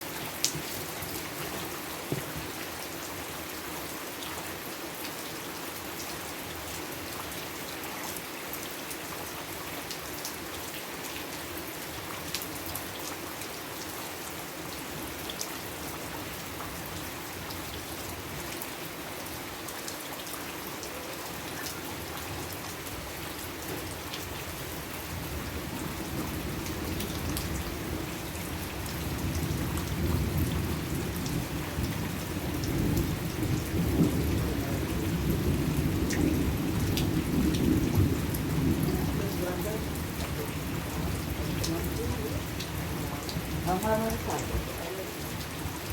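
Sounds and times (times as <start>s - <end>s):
rain falling on a surface: 0.0s - 45.9s.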